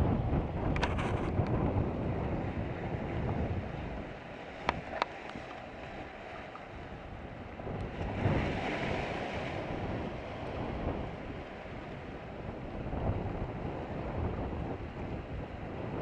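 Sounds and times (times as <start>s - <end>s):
wind buffeting microphone: 0.0s - 16.0s
waves washing against rocks: 0.1s - 16.0s.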